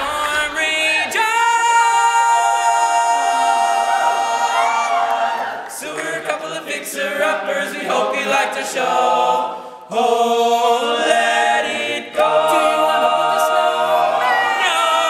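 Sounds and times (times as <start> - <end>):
male a cappella group singing: 0.0 - 15.0.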